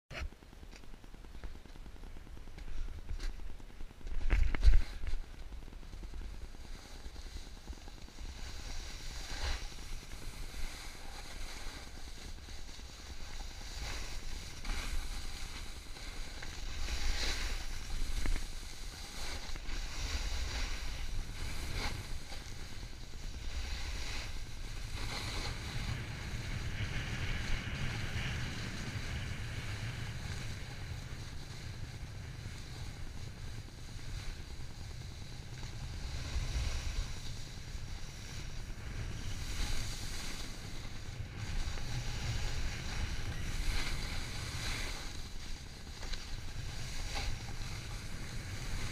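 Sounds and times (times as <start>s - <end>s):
wind rumble on microphone: 0.1s - 48.9s
snowboard scraping over snow: 4.2s - 48.9s.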